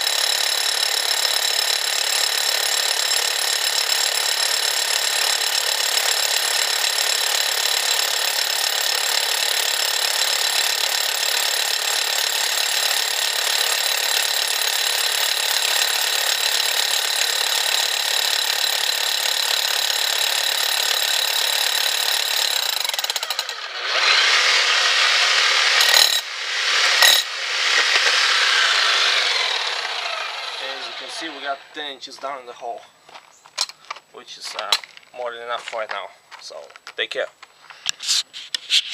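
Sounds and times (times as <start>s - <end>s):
rotary hammer drilling into rock: 0.0s - 31.5s.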